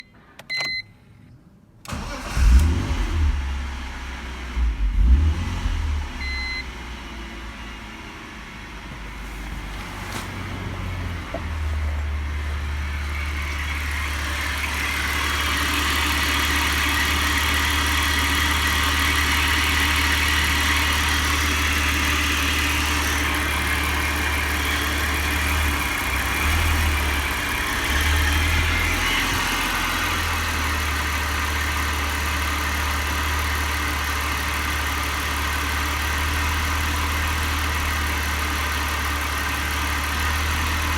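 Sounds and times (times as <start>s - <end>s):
car engine idling: 1.9s - 40.9s.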